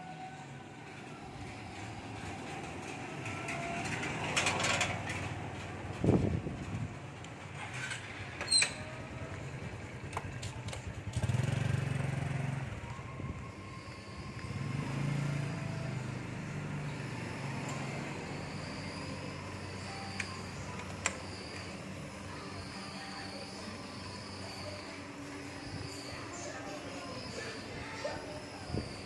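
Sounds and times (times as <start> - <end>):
outdoor street noise: 0.0 - 29.0
vehicle engine hum: 0.0 - 29.0.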